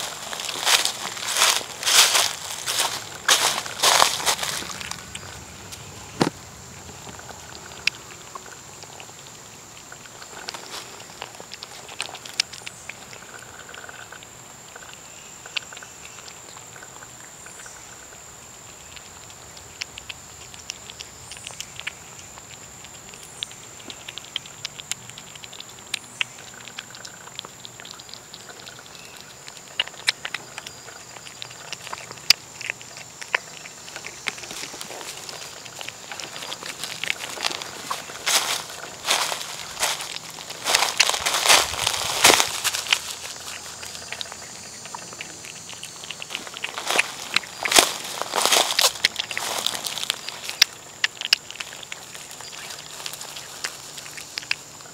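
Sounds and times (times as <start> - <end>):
cat chewing wetly: 0.0 - 54.9.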